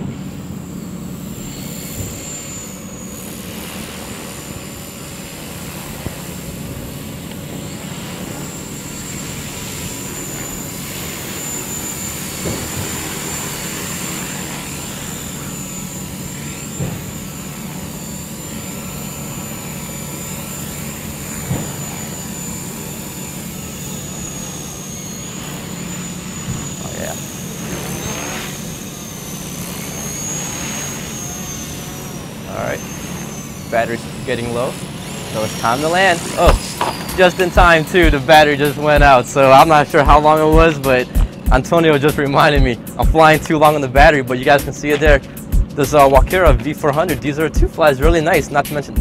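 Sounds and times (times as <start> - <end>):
electric motor whine: 0.0 - 49.0
helicopter rotor blades humming: 0.0 - 49.0.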